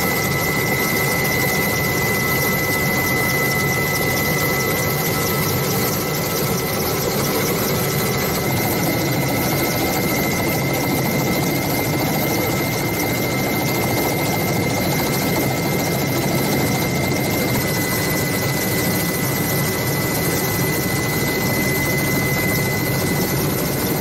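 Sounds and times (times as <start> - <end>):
helicopter engine and rotor: 0.0 - 24.0
high turbine whine: 0.0 - 24.0.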